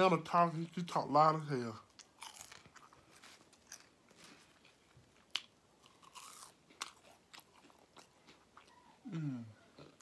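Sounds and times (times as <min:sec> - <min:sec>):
person chewing crunchy food: 0:01.8 - 0:10.0.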